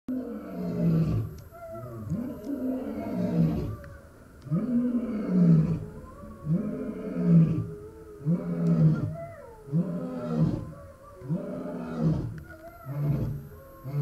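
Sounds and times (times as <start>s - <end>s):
lion roaring: 0.1s - 3.9s, 4.5s - 14.0s.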